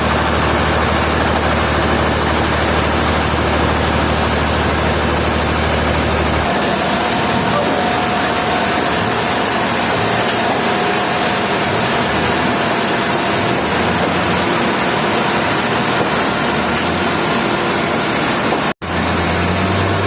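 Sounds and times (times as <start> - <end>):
sawmill machinery running: 0.0 - 20.0.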